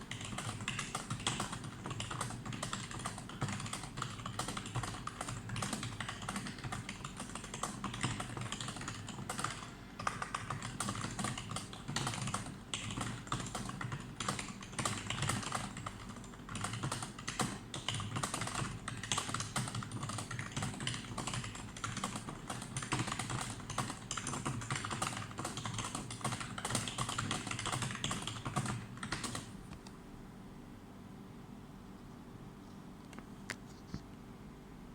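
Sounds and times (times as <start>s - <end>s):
fast typing on keyboard: 0.0s - 29.6s.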